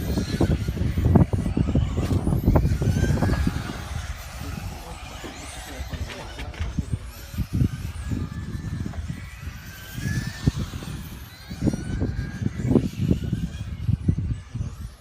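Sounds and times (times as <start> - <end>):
toy car motor whine: 0.0 - 15.0.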